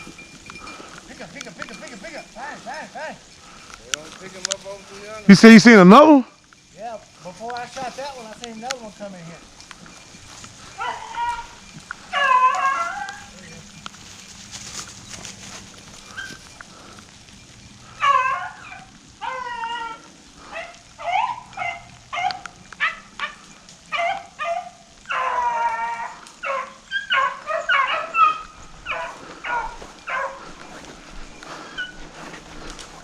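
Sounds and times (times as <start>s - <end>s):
hounds baying and barking: 0.0s - 33.0s.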